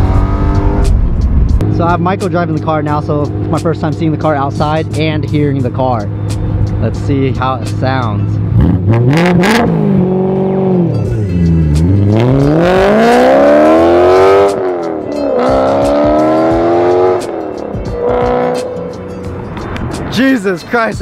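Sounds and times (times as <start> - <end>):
car engine accelerating hard: 0.0 - 5.4, 6.0 - 20.1.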